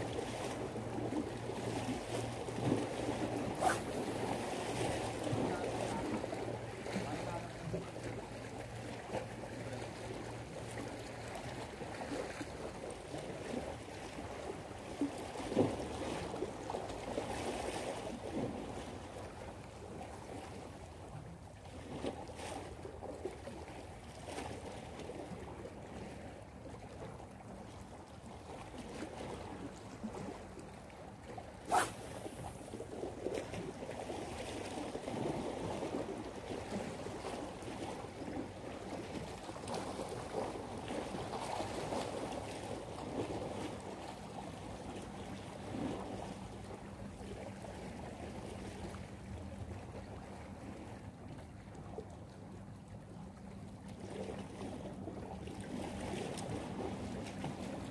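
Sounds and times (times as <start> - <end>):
waves lapping against rocks: 0.0 - 20.6, 27.8 - 52.6, 53.4 - 57.9.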